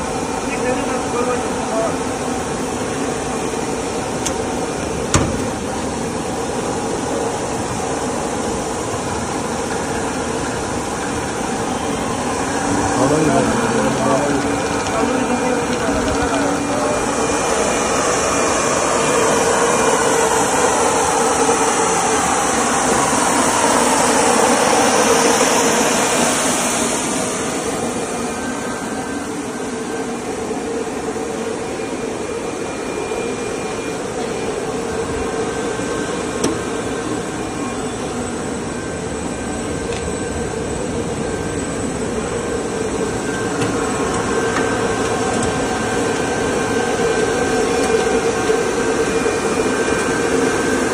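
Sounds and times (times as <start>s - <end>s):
machine hum: 0.0s - 50.9s.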